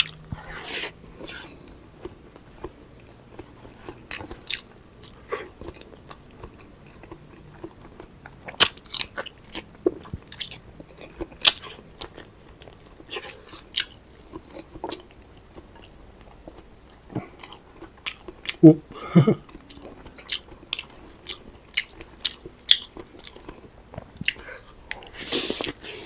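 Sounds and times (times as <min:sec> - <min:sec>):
chewing with crunchy bites: 0:00.0 - 0:26.0.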